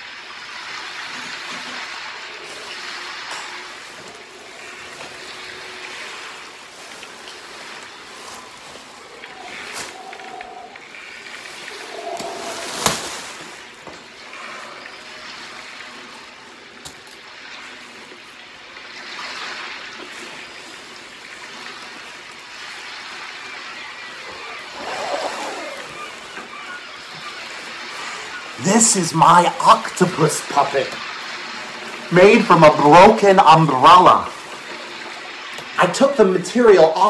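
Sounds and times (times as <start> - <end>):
water rushing and gurgling: 0.0 - 37.0.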